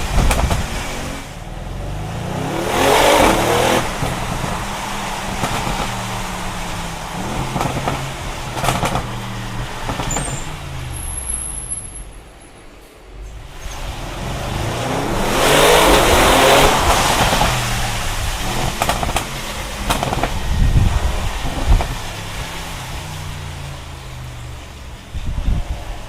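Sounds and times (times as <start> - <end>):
car engine accelerating hard: 0.0 - 11.5, 13.3 - 26.0
sharp exhaust cracks: 0.0 - 12.4, 13.0 - 25.6.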